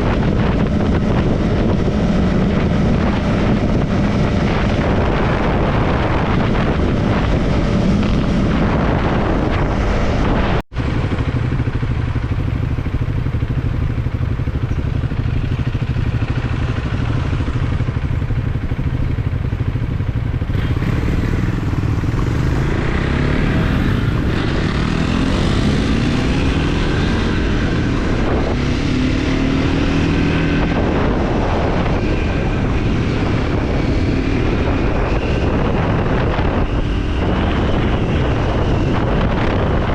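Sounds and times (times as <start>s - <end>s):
motorcycle engine accelerating: 0.0s - 39.9s
road and wind noise: 0.0s - 39.9s.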